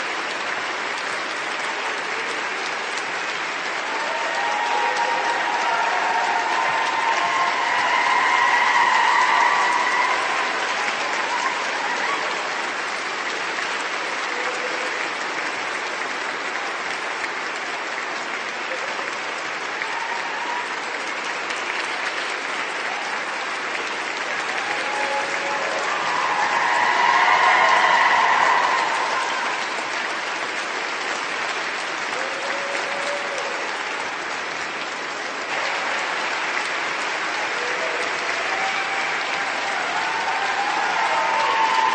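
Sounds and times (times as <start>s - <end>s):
large crowd applauding: 0.0s - 41.9s.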